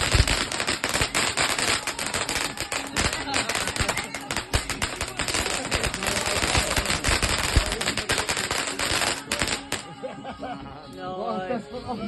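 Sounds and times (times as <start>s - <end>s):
firework crackling pops: 0.0s - 9.9s.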